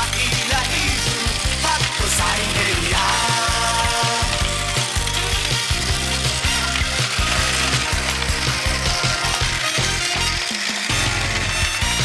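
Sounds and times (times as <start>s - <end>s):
background music: 0.0s - 12.0s
toy train motor whirring: 0.0s - 12.0s.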